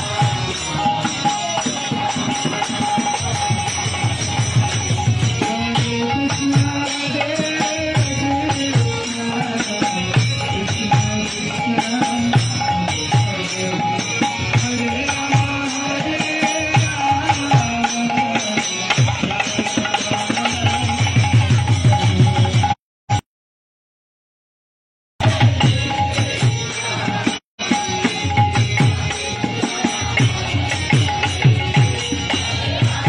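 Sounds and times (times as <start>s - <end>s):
drum beats: 0.0s - 23.2s, 25.2s - 33.0s
hand percussion: 0.0s - 23.2s, 25.2s - 33.0s.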